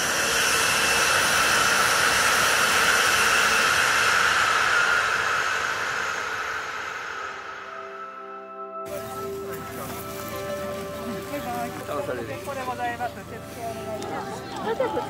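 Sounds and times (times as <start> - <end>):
faint high whine: 0.0 - 13.6
train passing at speed: 0.0 - 15.0.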